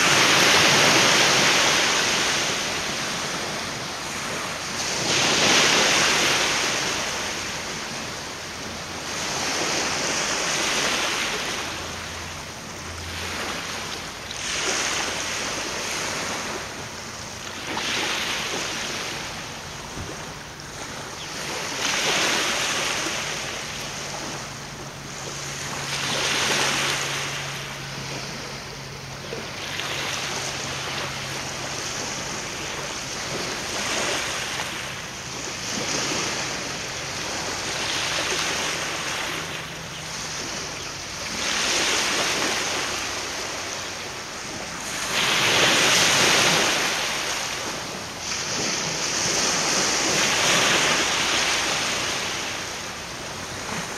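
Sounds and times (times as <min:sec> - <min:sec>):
waves washing ashore: 0:00.0 - 0:53.9
wind: 0:00.0 - 0:53.9.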